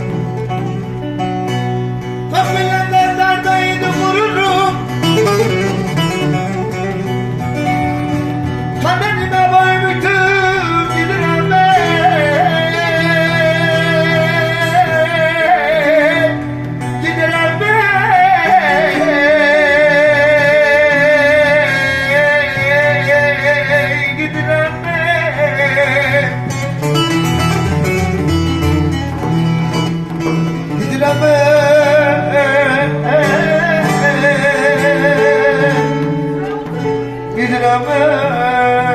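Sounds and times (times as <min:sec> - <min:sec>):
man singing folk song: 0:00.0 - 0:38.9
plucked string instrument: 0:00.0 - 0:38.9.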